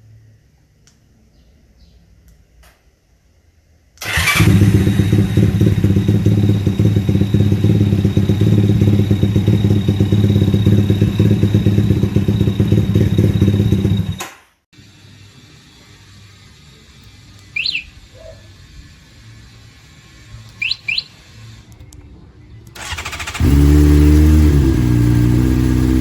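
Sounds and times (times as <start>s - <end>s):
motorcycle engine running: 4.0s - 14.2s, 15.3s - 26.0s.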